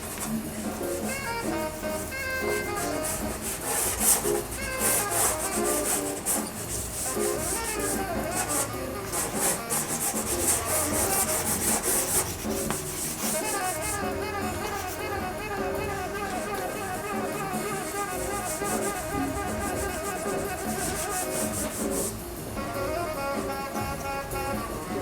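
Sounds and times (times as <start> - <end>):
pastel scratching on paper: 0.0 - 22.2
background music with brass: 0.0 - 25.0.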